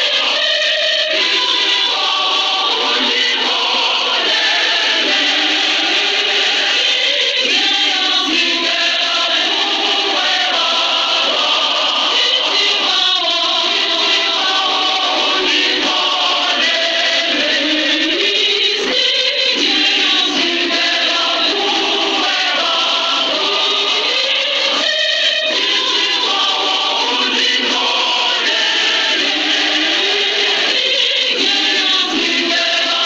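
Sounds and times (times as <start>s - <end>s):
choir singing gospel: 0.0s - 33.0s.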